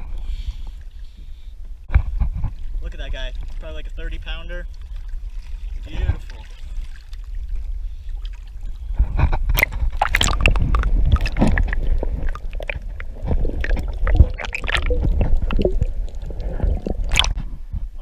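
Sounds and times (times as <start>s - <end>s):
water splashing and sloshing: 0.2s - 17.8s.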